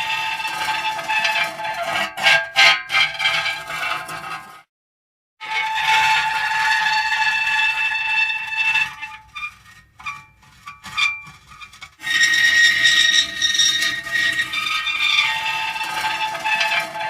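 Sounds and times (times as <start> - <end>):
metal creaking and squealing: 0.0 - 4.6, 5.4 - 17.0.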